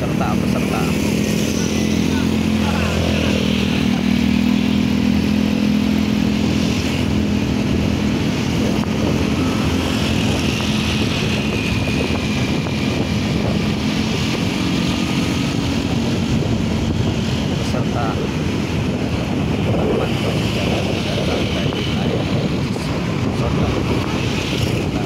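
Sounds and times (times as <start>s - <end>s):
small motorcycle engine running: 0.0s - 25.0s
wind and road noise: 0.0s - 25.0s.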